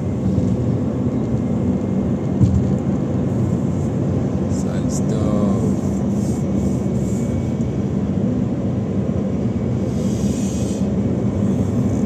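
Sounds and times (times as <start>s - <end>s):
car interior highway rumble: 0.0s - 12.0s.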